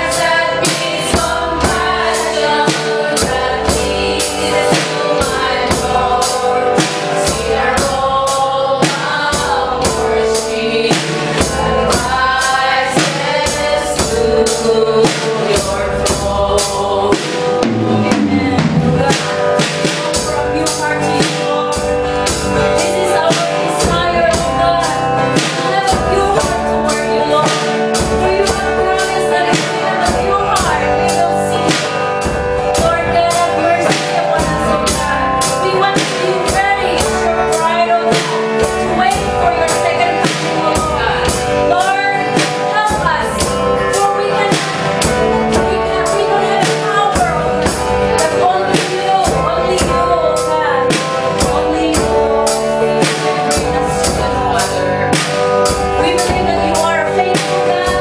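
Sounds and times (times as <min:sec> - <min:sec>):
drum kit beat: 0:00.0 - 0:58.0
voices singing: 0:00.0 - 0:58.0.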